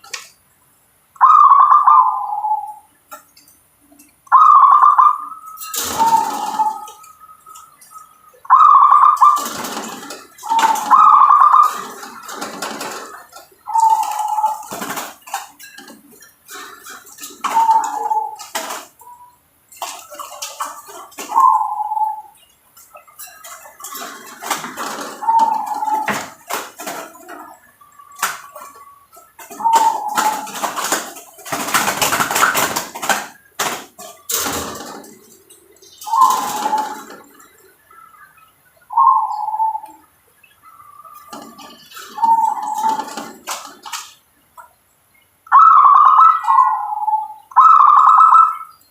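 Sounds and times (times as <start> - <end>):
dove cooing with trills: 1.2 - 2.9, 4.3 - 22.4, 23.0 - 33.2, 34.0 - 44.0, 45.5 - 48.7.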